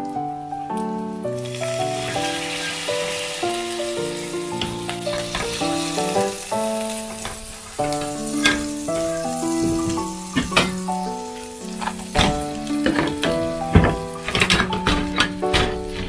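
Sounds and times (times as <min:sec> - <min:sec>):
light background music: 0:00.0 - 0:16.0
sauce sizzling in hot oil: 0:01.2 - 0:14.7.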